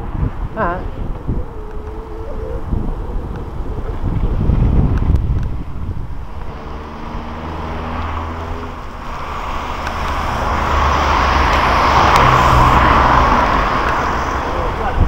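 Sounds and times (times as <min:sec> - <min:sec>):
car engine hum: 0:00.0 - 0:15.0
tyre noise from passing car: 0:00.0 - 0:15.0.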